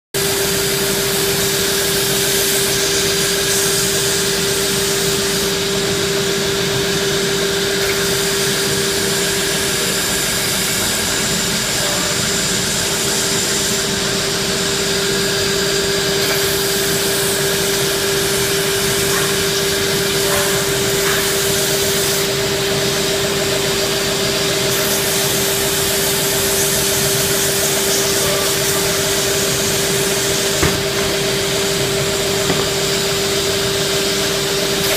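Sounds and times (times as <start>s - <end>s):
sanding machine humming: 6.6s - 34.9s.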